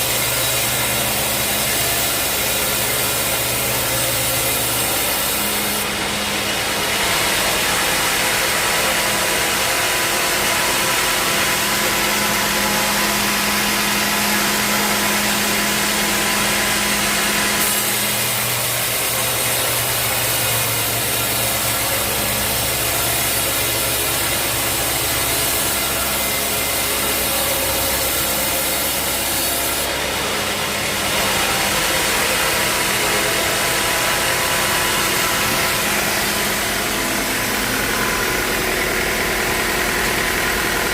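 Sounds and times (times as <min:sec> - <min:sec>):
bandsaw blade cutting log: 0:00.0 - 0:40.9
sawmill motor running: 0:00.0 - 0:40.9.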